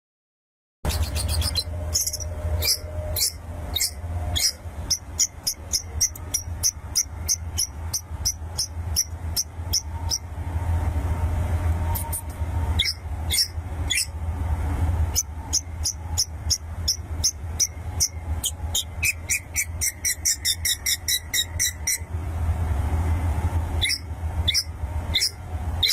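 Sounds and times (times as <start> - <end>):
steady low hum: 0.8 - 25.9.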